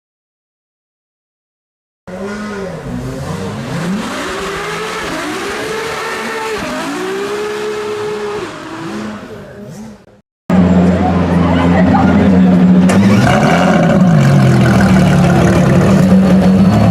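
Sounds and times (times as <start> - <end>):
car engine revving: 2.1 - 16.9.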